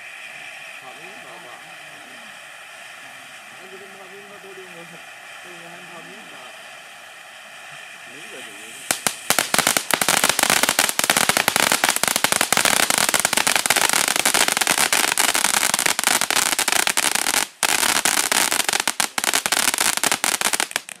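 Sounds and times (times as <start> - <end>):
firework fountain crackling: 0.0 - 21.0.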